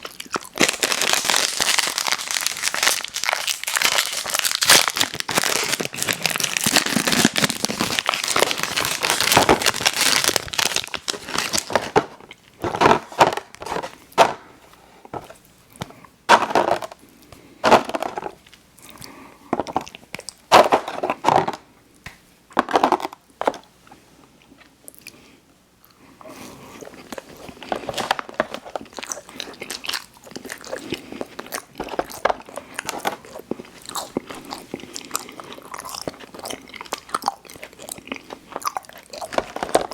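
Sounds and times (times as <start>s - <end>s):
plastic snack wrapper crinkling: 0.0s - 14.5s, 15.1s - 18.6s, 19.6s - 21.6s, 22.5s - 23.6s, 26.8s - 39.9s
crackles and crunches of eating: 0.0s - 39.9s.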